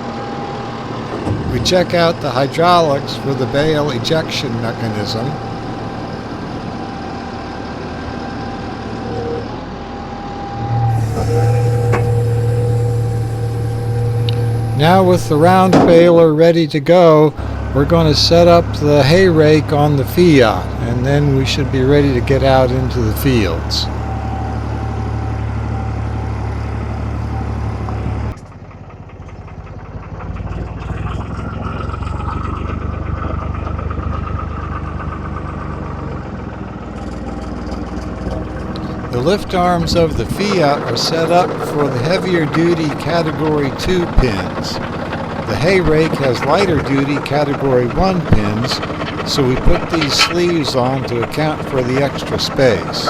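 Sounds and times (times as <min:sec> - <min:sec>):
tractor running: 0:00.0 - 0:53.0
steady high whine: 0:00.4 - 0:28.4, 0:38.2 - 0:53.0
steady low hum: 0:00.6 - 0:06.9, 0:10.2 - 0:35.8, 0:38.0 - 0:53.0.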